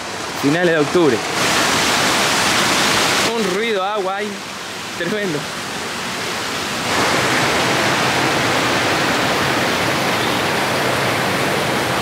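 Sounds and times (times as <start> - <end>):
water rushing through drain grate: 0.0 - 12.0.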